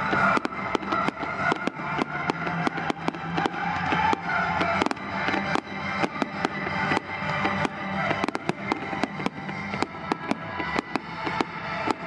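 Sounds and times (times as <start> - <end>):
fireworks bangs: 0.0 - 12.0
music playing: 0.0 - 12.0.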